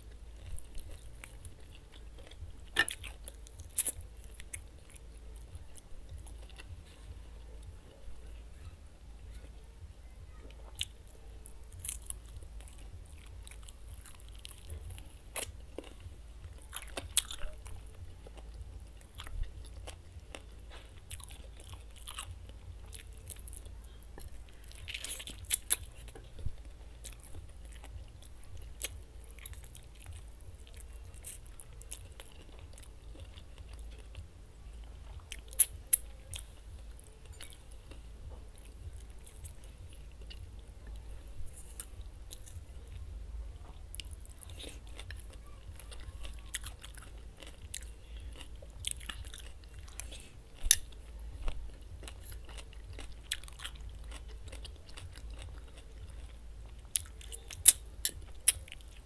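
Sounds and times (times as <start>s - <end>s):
chewing and biting chicken: 0.0s - 8.0s, 10.6s - 43.0s, 43.7s - 59.0s.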